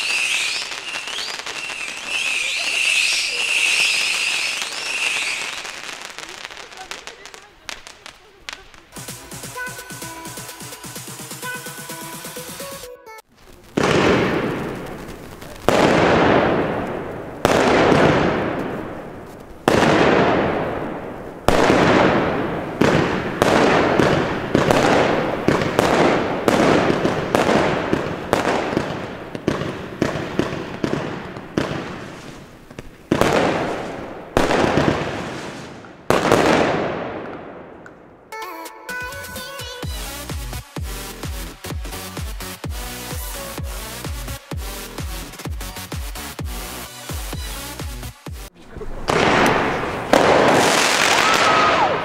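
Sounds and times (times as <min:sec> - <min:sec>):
firework shots: 0:00.0 - 0:52.0.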